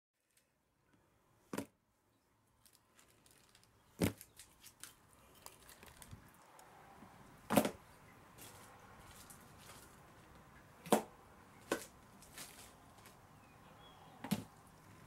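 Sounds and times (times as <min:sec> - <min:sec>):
faint background noise: 0:00.2 - 0:15.0.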